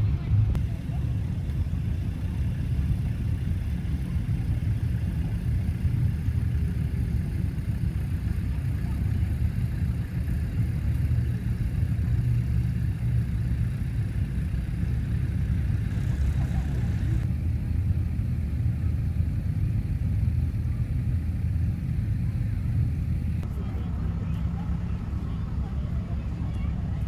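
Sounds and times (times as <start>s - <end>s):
tractor engines idling: 0.0s - 27.0s.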